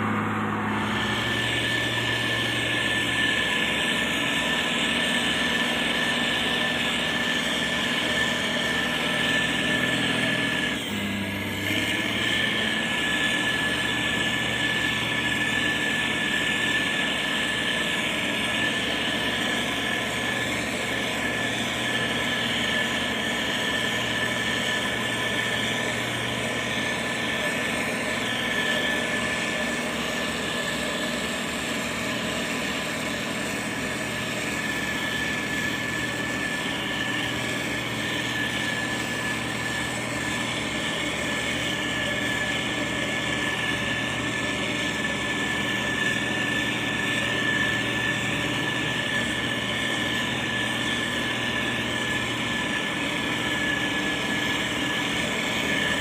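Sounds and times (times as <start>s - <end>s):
diesel engine running: 0.0s - 56.0s
high-pitched whine: 0.0s - 56.0s.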